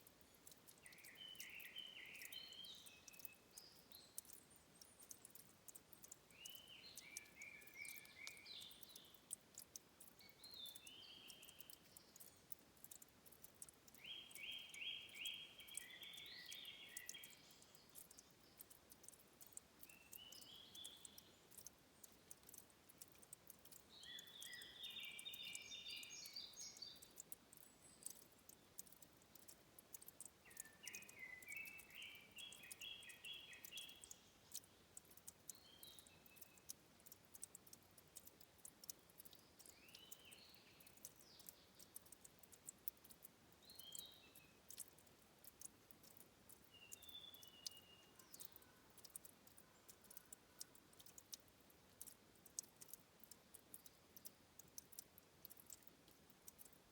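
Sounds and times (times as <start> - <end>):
songbird singing: 0.0 - 56.9
trickling water clicks: 0.0 - 56.9.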